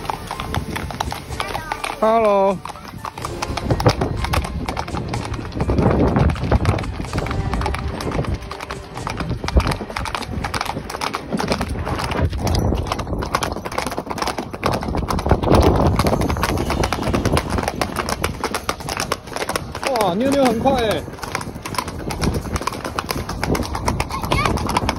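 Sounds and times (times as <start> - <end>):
hooves clip-clopping on pavement: 0.0 - 24.9.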